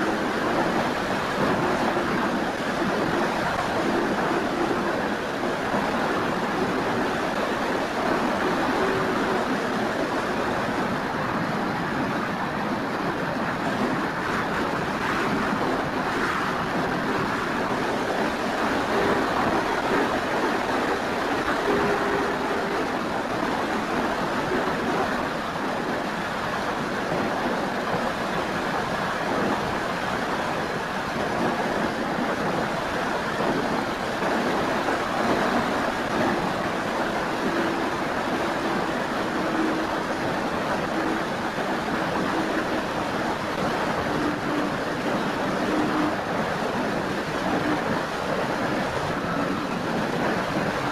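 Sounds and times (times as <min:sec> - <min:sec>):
electric motor and propeller whine: 0:00.0 - 0:30.3, 0:31.1 - 0:50.9.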